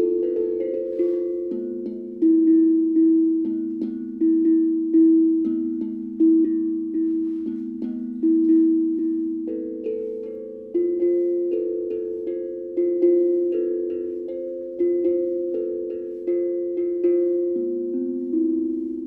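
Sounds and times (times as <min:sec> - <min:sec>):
steel tongue drum melody: 0:00.0 - 0:19.0.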